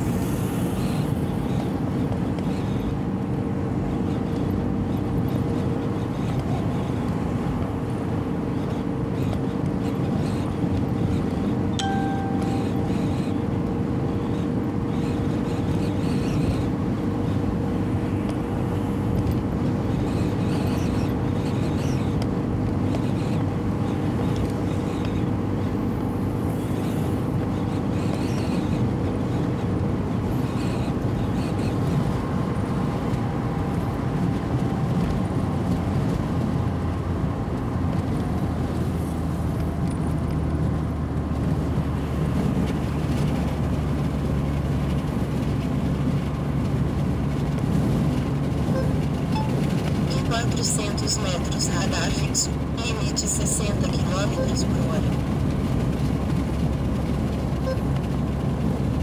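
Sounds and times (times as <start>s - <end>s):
car engine hum: 0.0s - 59.0s
deeper engine hum: 0.0s - 59.0s
tyre and road noise: 0.0s - 59.0s.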